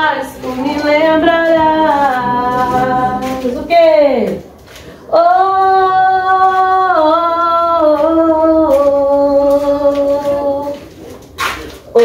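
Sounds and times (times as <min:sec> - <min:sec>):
woman singing slow worship song: 0:00.0 - 0:10.9.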